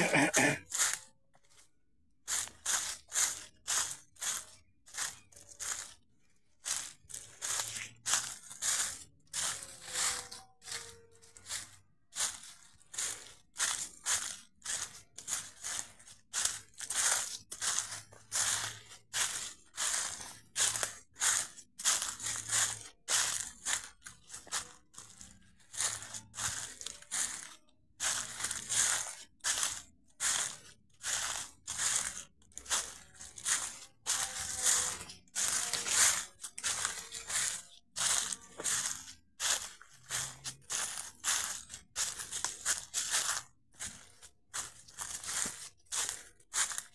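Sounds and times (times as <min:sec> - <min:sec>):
footsteps crunching dry leaves: 0:00.0 - 0:01.6, 0:02.3 - 0:46.9.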